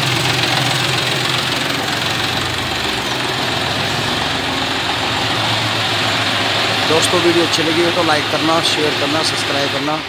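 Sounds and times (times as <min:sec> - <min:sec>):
diesel tractor engine running: 0:00.0 - 0:10.0.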